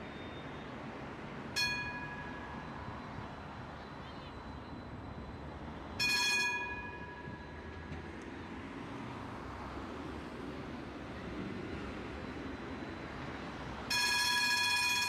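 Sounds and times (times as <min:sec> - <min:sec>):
tram running on rails: 0:00.0 - 0:15.0
tram warning bell: 0:00.0 - 0:15.0.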